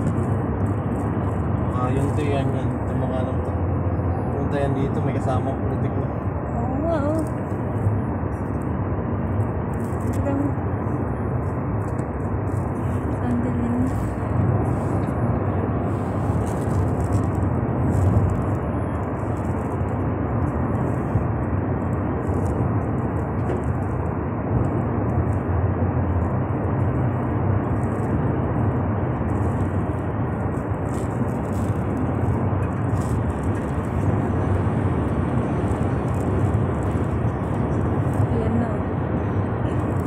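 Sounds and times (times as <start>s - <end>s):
car cabin road and engine noise: 0.0s - 40.0s.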